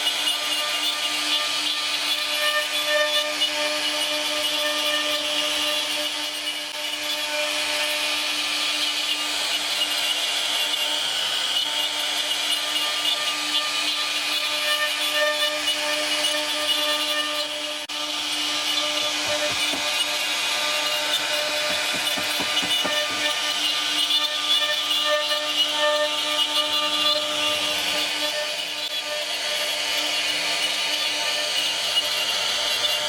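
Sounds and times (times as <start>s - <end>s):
router cutting wood: 0.0s - 33.0s
router spindle whine: 0.0s - 33.0s.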